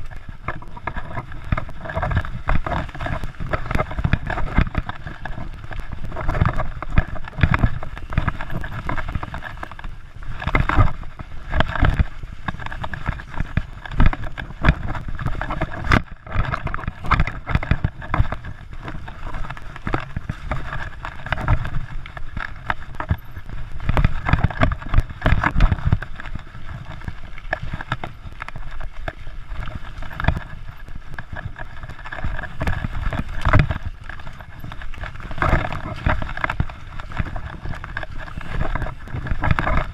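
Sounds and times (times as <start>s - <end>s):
bike knocks and rattles: 0.0s - 39.9s
bike tyres rolling on dirt: 0.0s - 39.9s.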